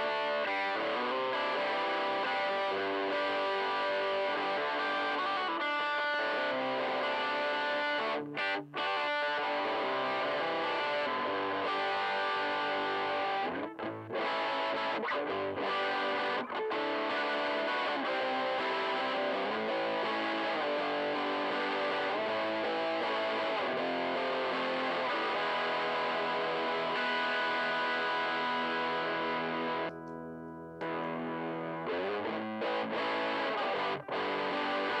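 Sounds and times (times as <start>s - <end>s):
overdriven electric guitar chords: 0.0s - 35.0s.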